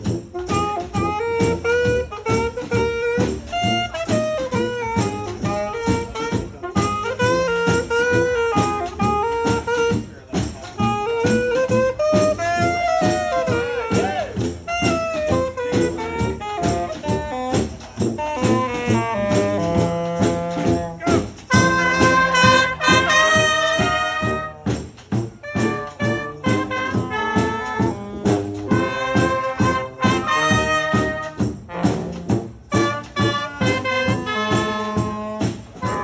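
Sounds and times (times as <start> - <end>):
brass and saxophones playing: 0.0 - 36.0
percussion beat: 0.0 - 36.0.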